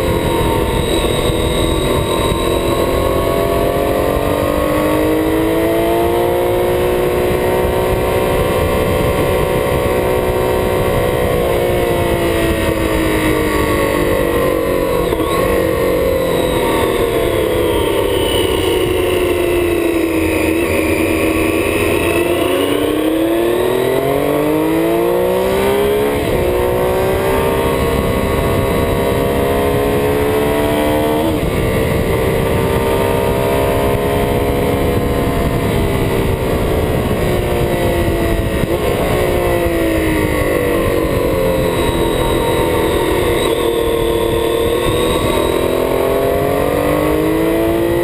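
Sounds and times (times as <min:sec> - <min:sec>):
motorcycle engine accelerating: 0:00.0 - 0:48.0
wind rush: 0:00.0 - 0:48.0.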